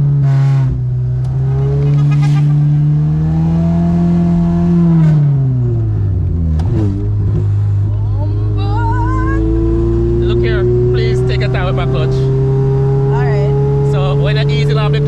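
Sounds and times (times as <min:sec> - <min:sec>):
car engine pulling: 0:00.0 - 0:15.0.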